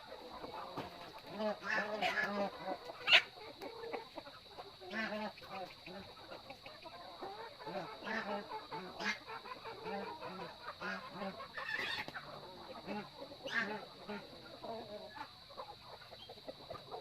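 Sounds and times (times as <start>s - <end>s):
chickens and ducks calling: 0.0s - 17.0s.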